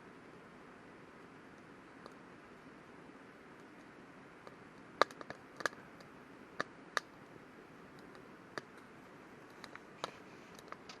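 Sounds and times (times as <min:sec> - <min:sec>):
faint steady hiss: 0:00.0 - 0:11.0
campfire crackling: 0:01.0 - 0:11.0.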